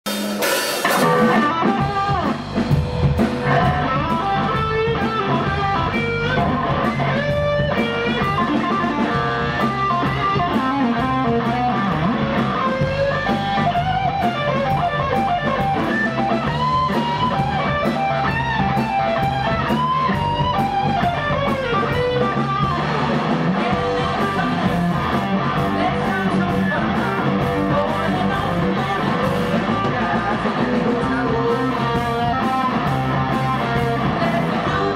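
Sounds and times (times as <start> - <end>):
blues-rock band playing: 0.0 - 34.9
lead guitar with bent notes: 0.4 - 34.9.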